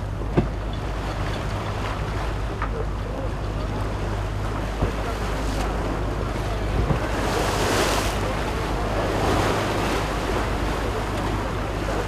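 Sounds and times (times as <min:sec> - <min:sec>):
waves washing past a boat: 0:00.0 - 0:12.0.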